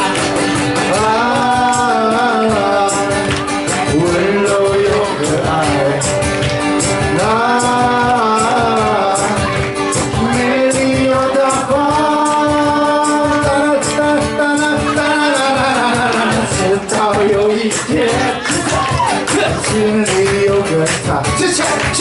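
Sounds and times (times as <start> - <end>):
light percussion beat: 0.0 - 22.0
men singing pop song: 0.0 - 22.0
strummed acoustic guitar: 0.0 - 22.0.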